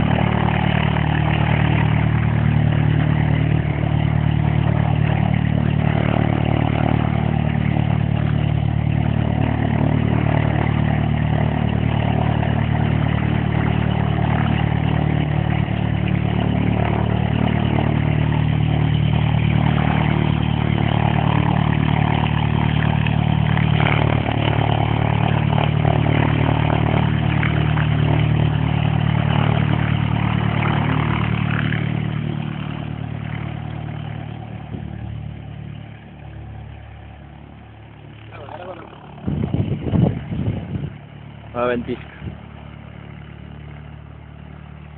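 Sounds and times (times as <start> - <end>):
light aircraft engine and propeller: 0.0 - 44.9.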